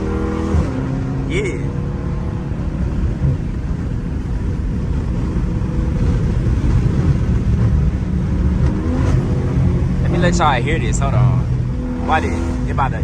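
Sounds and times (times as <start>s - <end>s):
car exhaust low rumble: 0.0s - 13.0s.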